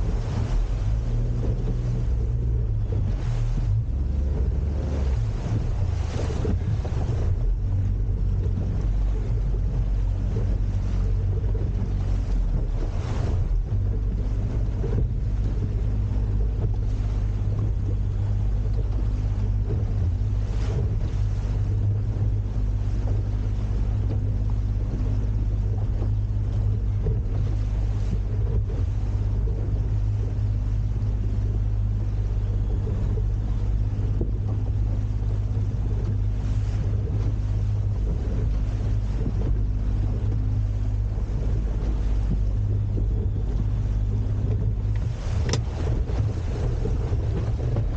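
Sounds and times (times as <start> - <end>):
boat engine running: 0.0 - 47.9
water noise: 0.0 - 47.9
wind: 0.0 - 47.9.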